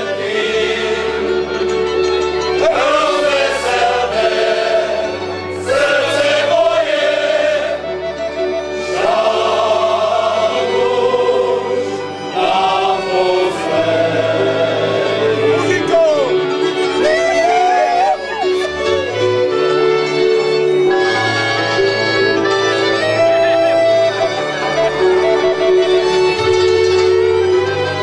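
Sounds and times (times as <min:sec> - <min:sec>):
male choir singing in harmony: 0:00.0 - 0:28.0.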